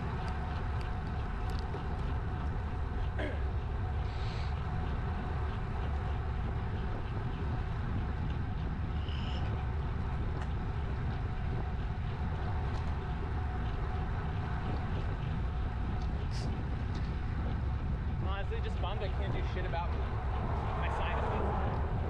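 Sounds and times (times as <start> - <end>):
tyres rolling on asphalt: 0.0 - 22.0
wind on camera microphone: 0.0 - 22.0.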